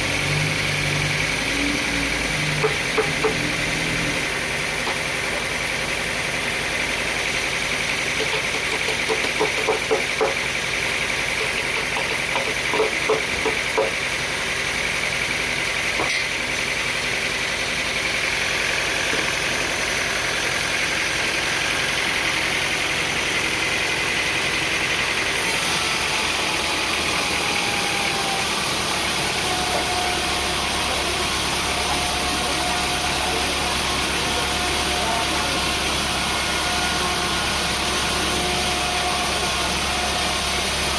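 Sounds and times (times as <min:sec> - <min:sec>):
engine knocking bursts: 0:00.0 - 0:40.9
engine running: 0:00.0 - 0:40.9.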